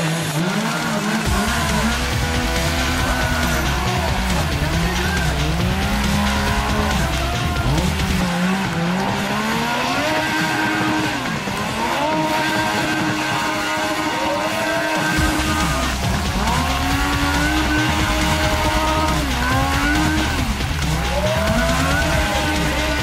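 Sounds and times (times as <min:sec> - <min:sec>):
motorcycle engine revving: 0:00.0 - 0:23.0
tyre squealing on asphalt: 0:00.0 - 0:23.0.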